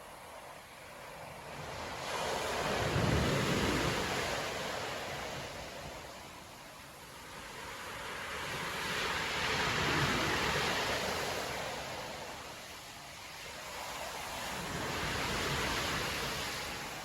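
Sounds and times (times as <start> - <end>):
storm waves breaking on beach: 0.0 - 17.0.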